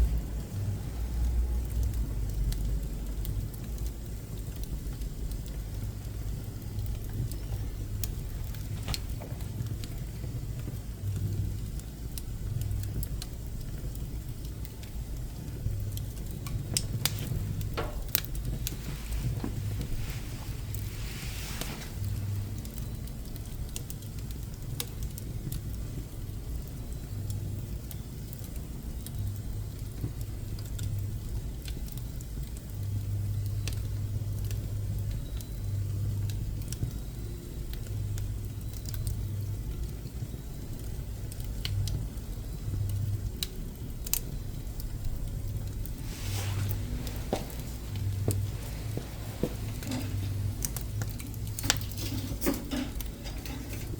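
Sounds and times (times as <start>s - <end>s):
fire crackles and pops: 0.0s - 53.9s
wood burning in stove: 0.0s - 53.9s.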